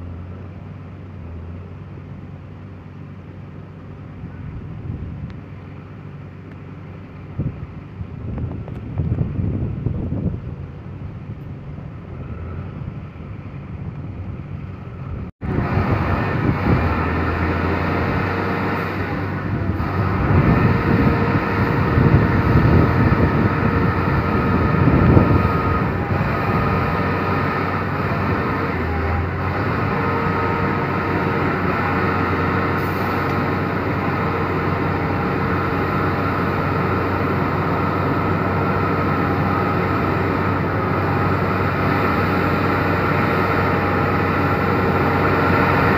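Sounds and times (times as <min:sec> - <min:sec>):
truck engine running: 0:00.0 - 0:45.9
wind: 0:00.0 - 0:45.9.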